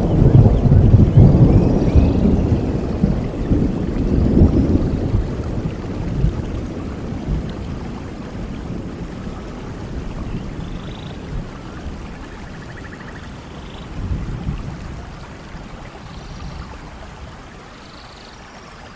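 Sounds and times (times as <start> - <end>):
low thunder rumble: 0.0 - 17.5
rain falling: 0.0 - 18.9.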